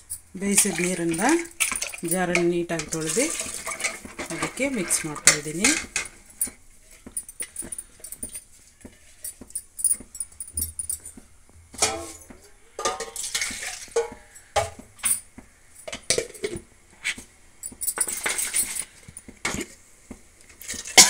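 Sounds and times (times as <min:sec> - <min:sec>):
steel utensils clinking on metal pot: 0:00.0 - 0:11.2, 0:11.8 - 0:16.6, 0:17.6 - 0:19.7, 0:20.6 - 0:21.0.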